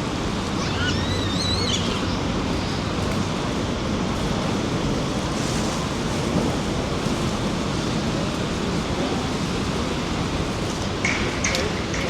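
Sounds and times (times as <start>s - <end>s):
waterfall roaring: 0.0s - 6.0s, 6.7s - 12.0s.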